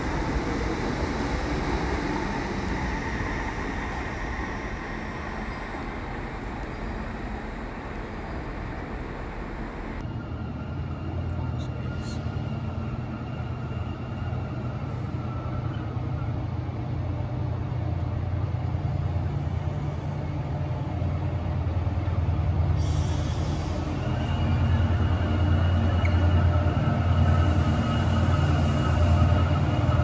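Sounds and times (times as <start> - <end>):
train running hum: 0.0 - 30.0.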